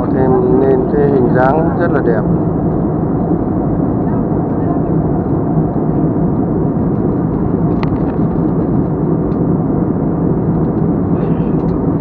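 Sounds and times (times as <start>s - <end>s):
jet airliner cabin rumble: 0.0s - 12.0s.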